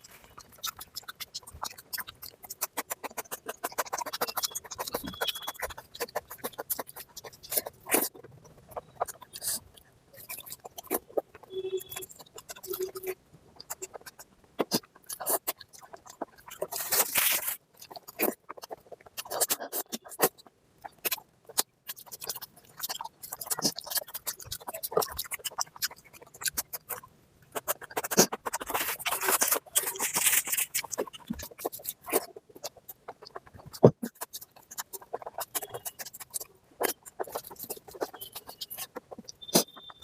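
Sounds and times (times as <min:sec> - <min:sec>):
wet chewing and lip smacks: 0:00.0 - 0:40.0.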